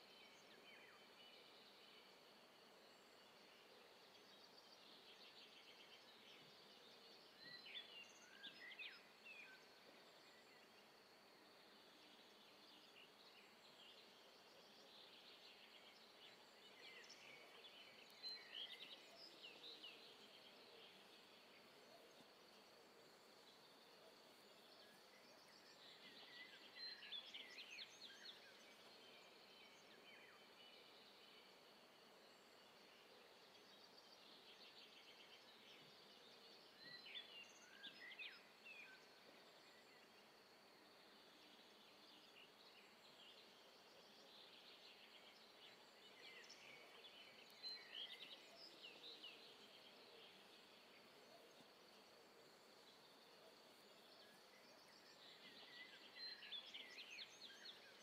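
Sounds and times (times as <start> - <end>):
faint bird chirping: 0.0 - 58.0.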